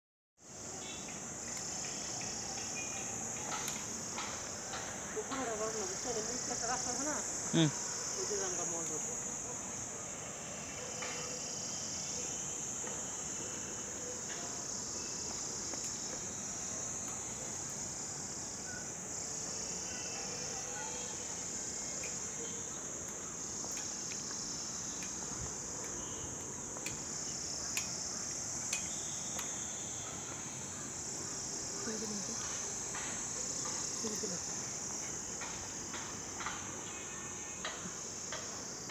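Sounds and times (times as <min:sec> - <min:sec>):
insect chorus: 0:00.4 - 0:38.9.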